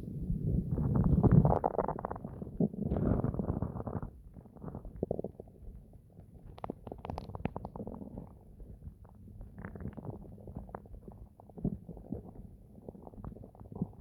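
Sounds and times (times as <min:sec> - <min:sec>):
stomach gurgling and rumbling: 0:00.0 - 0:14.0.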